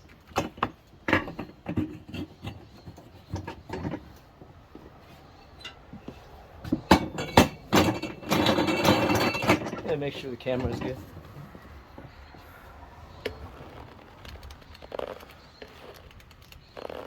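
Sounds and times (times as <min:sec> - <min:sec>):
tire and tools knocking and clanking: 0:00.0 - 0:17.0.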